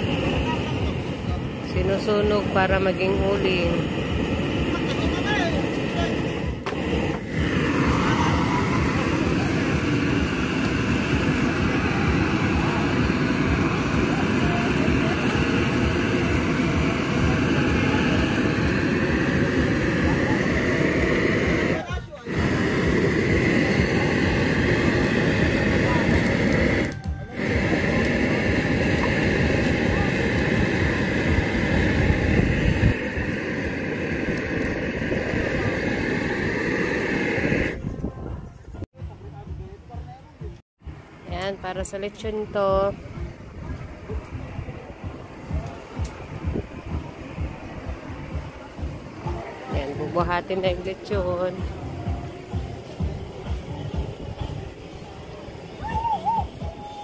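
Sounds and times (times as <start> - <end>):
gas torch burning: 0.0 - 37.9, 40.8 - 57.0.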